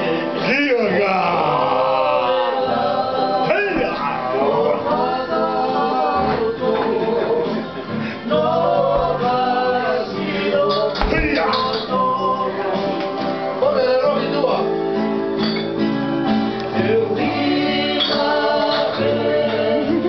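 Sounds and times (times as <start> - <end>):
man singing: 0.0 - 14.8, 16.7 - 20.0
musical backing: 0.0 - 20.0.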